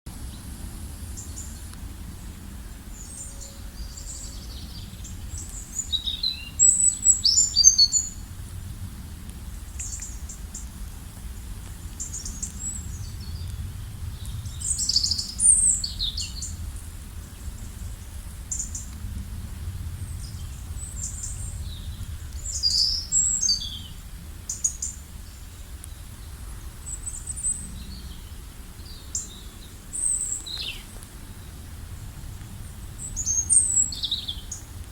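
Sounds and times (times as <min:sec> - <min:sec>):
low background rumble: 0:00.2 - 0:34.9
songbirds chirping and trilling: 0:00.2 - 0:34.9.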